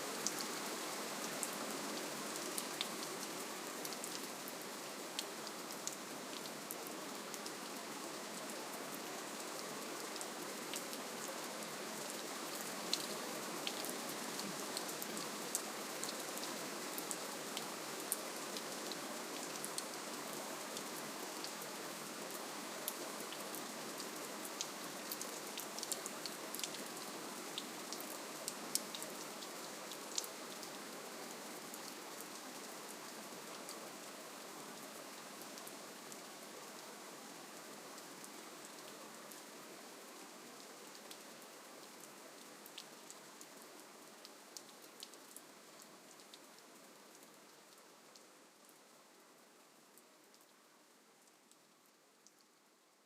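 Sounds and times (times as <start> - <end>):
soft rainfall: 0.0 - 53.0.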